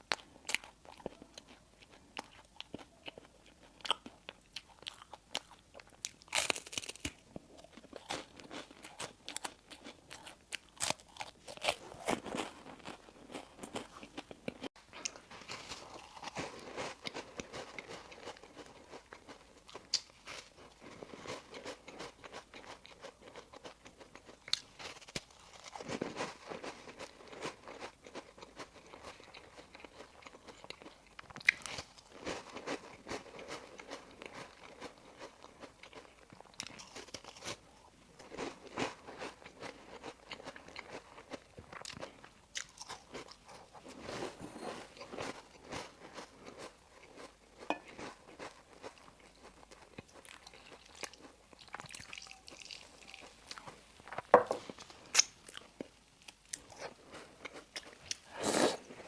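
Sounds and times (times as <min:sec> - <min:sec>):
crunching and chewing bread: 0:00.0 - 0:59.0.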